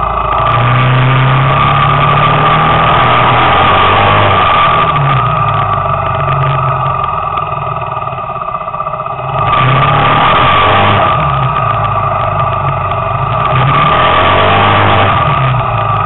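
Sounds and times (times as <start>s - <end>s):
road and wind noise: 0.0s - 16.0s
scooter engine running: 0.0s - 16.0s.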